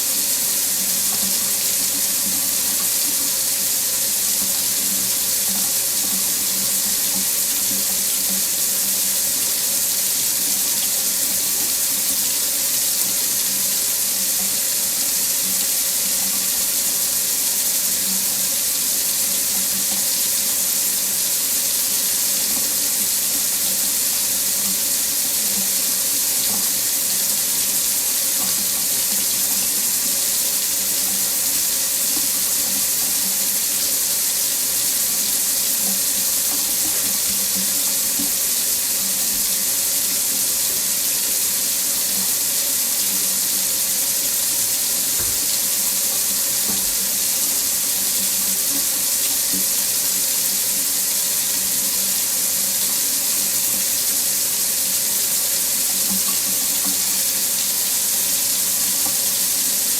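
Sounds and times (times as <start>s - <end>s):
tap running into sink: 0.0s - 21.0s, 22.0s - 34.2s, 35.0s - 40.5s, 42.1s - 49.9s, 55.9s - 57.9s, 58.7s - 59.8s.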